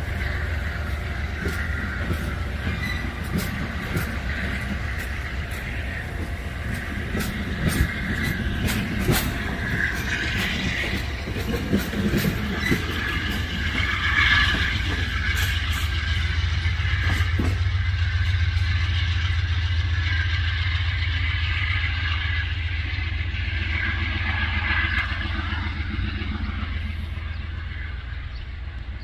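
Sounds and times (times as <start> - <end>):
freight train rumbling past: 0.0 - 29.0
train wheels on rails: 0.0 - 29.0.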